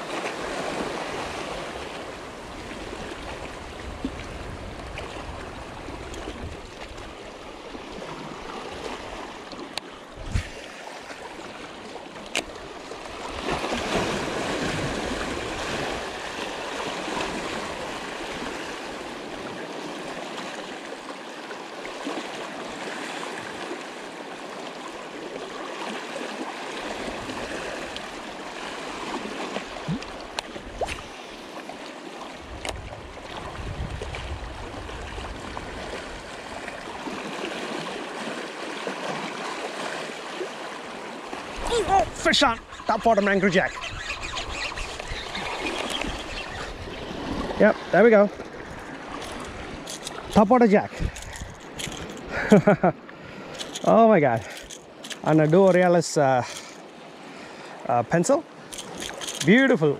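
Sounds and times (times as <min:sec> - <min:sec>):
waves lapping around rocks: 0:00.0 - 0:59.9.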